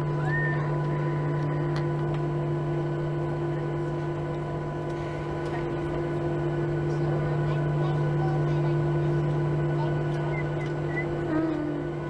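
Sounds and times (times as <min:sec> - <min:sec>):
cabin air noise: 0:00.0 - 0:12.0
jet engines idling: 0:00.0 - 0:12.0.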